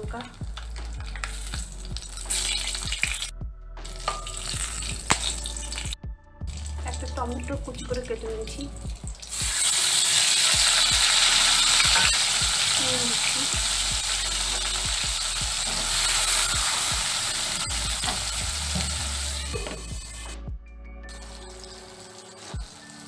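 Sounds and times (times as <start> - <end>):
tomatoes sizzling in hot oil: 0.0 - 3.3, 3.9 - 20.4, 21.1 - 23.0.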